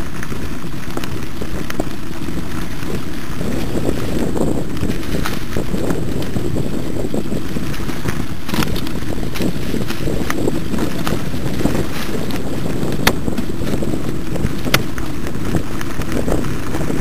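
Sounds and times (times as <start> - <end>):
bike rattling clicks and knocks: 0.0 - 17.0
bike ride rumble: 0.0 - 17.0
wind buffeting microphone: 0.0 - 17.0.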